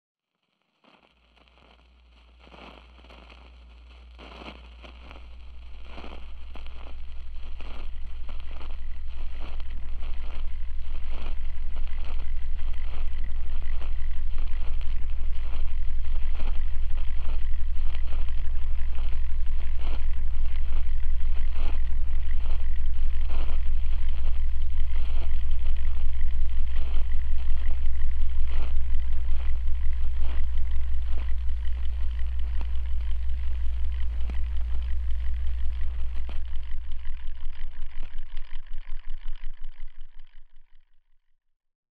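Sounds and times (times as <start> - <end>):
soft irregular clicks: 1.1 - 40.6
deep steady drone: 1.3 - 41.0.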